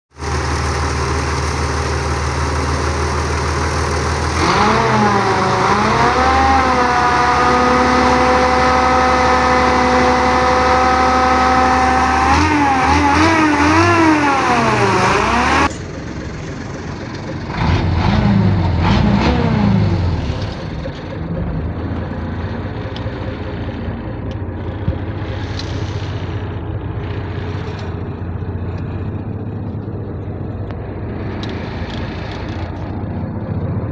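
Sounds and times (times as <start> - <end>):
truck engine idling and revving: 0.1 - 33.9.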